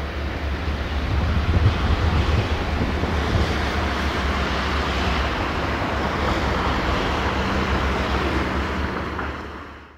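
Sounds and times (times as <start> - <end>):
diesel locomotive engine rumble: 0.0 - 9.9.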